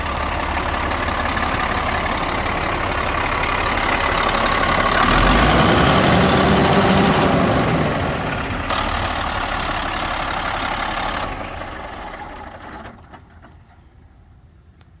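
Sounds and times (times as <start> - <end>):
diesel truck engine idling: 0.0 - 14.3.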